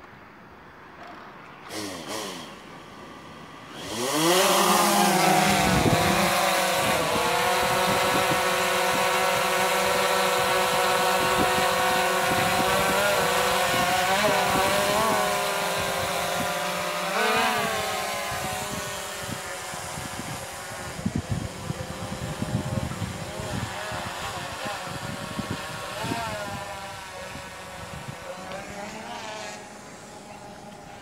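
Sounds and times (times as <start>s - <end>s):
drone propellers whining: 1.6s - 31.0s.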